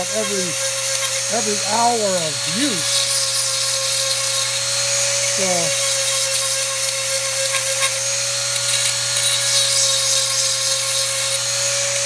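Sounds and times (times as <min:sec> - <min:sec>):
rotary tool grinding steel: 0:00.0 - 0:12.0.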